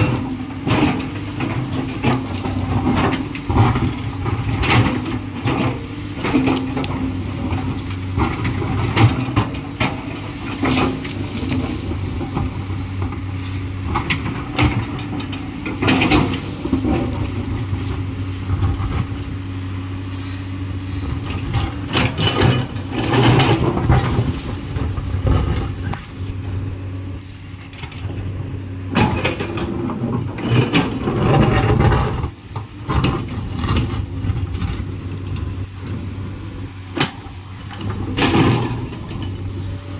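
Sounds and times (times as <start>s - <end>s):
metallic clanks and scrapes: 0.0s - 19.3s, 20.1s - 26.0s, 28.9s - 35.5s, 36.9s - 39.8s
excavator diesel engine: 0.0s - 39.9s.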